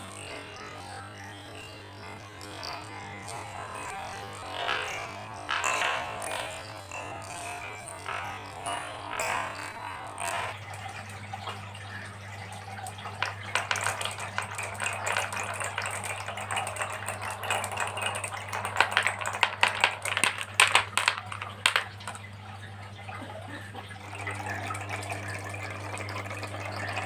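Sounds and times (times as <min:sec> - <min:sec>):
marbles clattering down track: 0:00.0 - 0:27.0.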